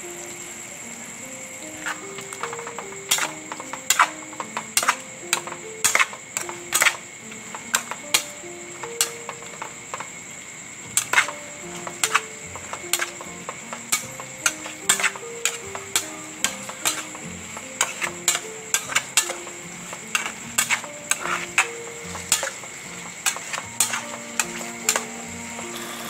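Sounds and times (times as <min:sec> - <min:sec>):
soft simple melody: 0:00.0 - 0:26.0
metal spatula scraping pan: 0:01.7 - 0:10.1, 0:10.9 - 0:26.0.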